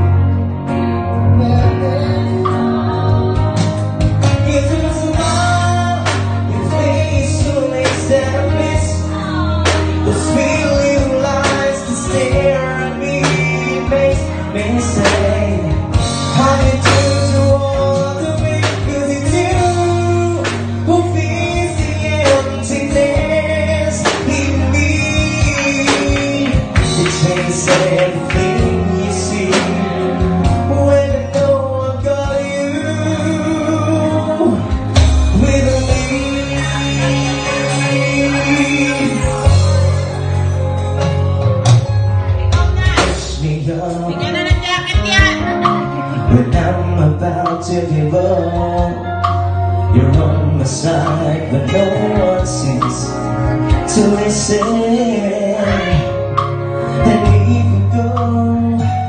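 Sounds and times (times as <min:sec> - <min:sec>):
loud amplified music with drums: 0:00.0 - 0:59.0
man singing into a microphone: 0:01.0 - 0:41.0, 0:42.5 - 0:59.0.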